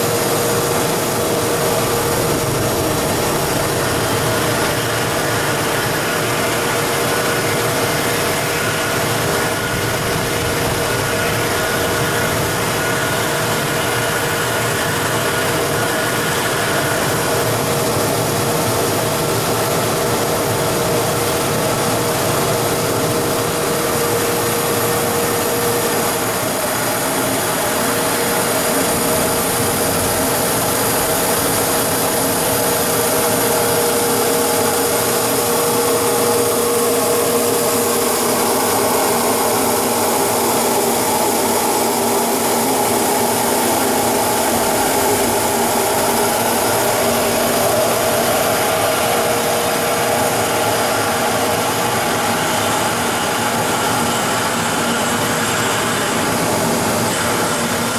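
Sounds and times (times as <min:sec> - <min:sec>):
machine motors and blower running: 0:00.0 - 0:57.9.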